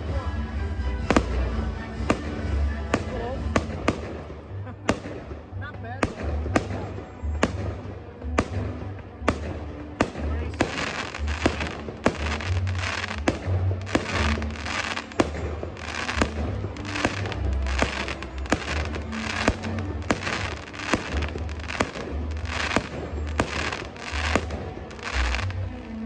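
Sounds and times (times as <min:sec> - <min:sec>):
fireworks bangs: 0:01.0 - 0:25.6
deep fireworks booms: 0:01.0 - 0:25.7
fireworks crackling hiss: 0:01.0 - 0:26.0.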